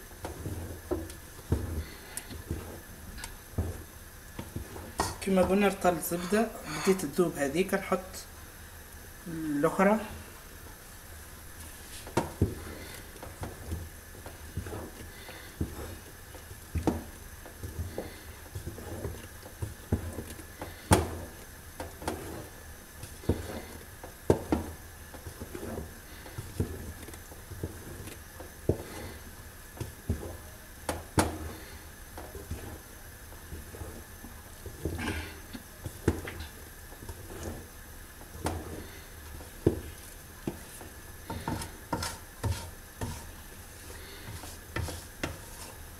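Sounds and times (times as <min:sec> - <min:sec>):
wooden spoon stirring thick paste: 0:00.0 - 0:08.2, 0:11.5 - 0:45.9.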